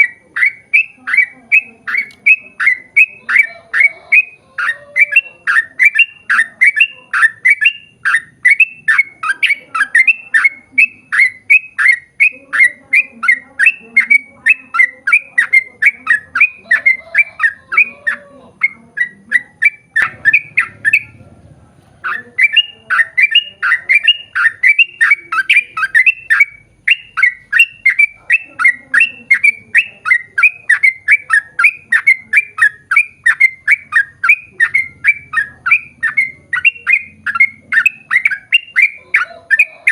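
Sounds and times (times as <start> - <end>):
bird singing sharp repeated notes: 0.0 - 39.9.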